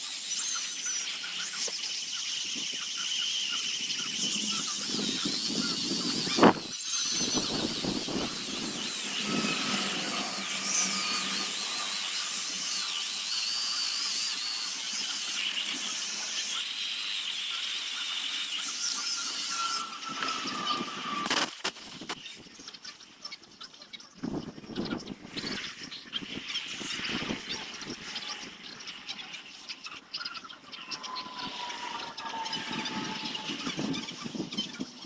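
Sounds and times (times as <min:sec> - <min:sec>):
rotary carving tool whining in wood: 0:00.0 - 0:22.3, 0:24.2 - 0:35.0.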